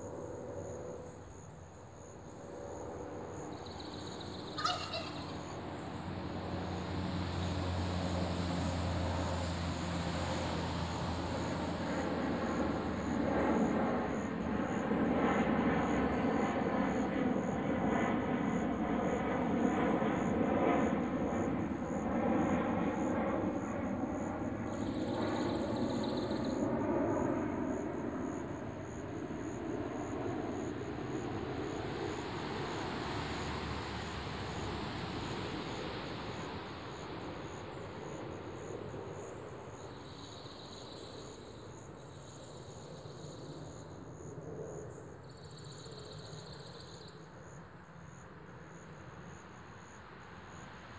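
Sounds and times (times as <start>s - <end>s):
pulsing insect trill: 0.0s - 50.6s
propeller airplane engine drone: 0.0s - 50.9s.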